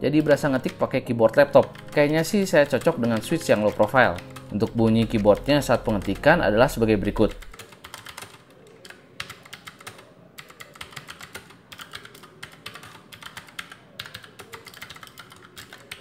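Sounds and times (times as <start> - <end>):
mechanical keyboard typing: 0.0 - 16.0.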